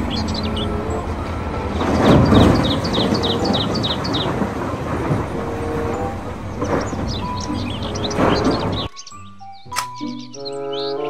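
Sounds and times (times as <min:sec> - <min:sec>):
diesel machinery rumbling: 0:00.0 - 0:08.9.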